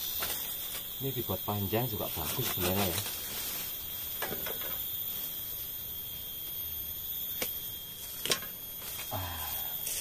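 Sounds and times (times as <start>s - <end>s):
high-pitched drone: 0.0s - 10.0s.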